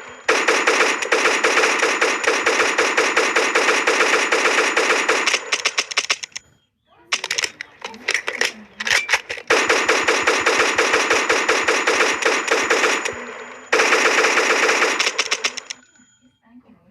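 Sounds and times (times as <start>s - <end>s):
automatic gunfire: 0.0s - 6.4s, 7.1s - 15.8s.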